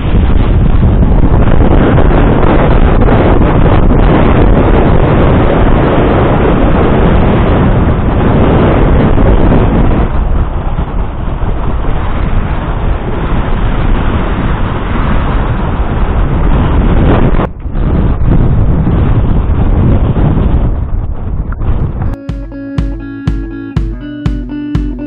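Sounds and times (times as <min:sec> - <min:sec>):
wind buffeting microphone: 0:00.0 - 0:22.2.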